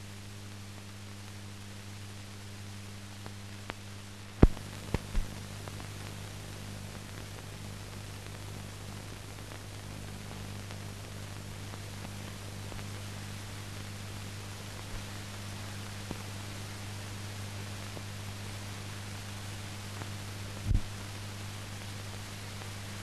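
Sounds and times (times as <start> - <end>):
low mains hum: 0.0 - 23.0
film transfer hiss: 0.2 - 23.0.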